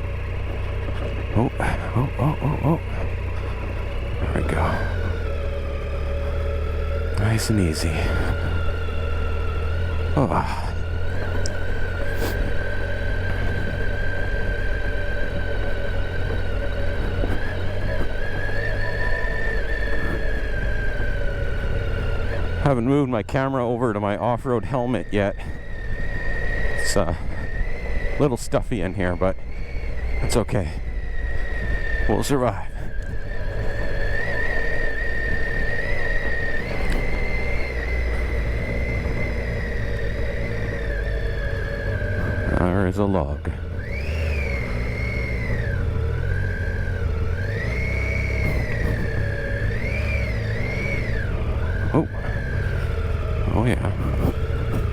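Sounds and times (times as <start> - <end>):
motorcycle engine running: 0.0 - 54.9
steady whine: 0.0 - 54.9.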